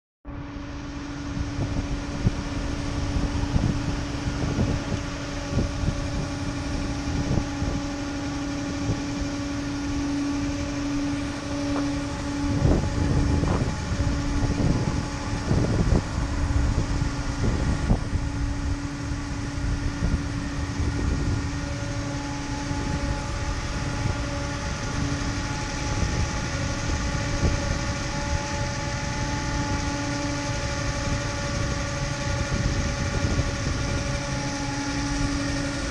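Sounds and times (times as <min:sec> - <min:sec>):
low buffeting: 0:00.3 - 0:35.9
mechanical hum with whining tone: 0:00.3 - 0:35.9.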